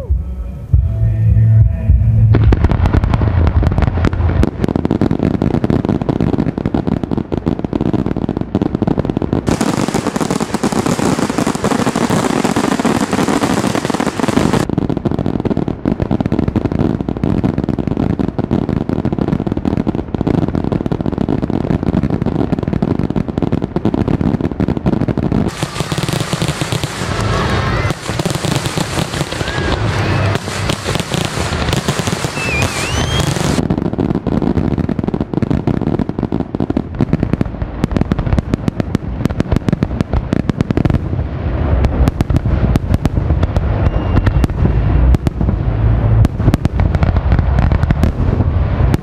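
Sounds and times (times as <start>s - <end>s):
fireworks crackling and banging: 2.2s - 49.0s.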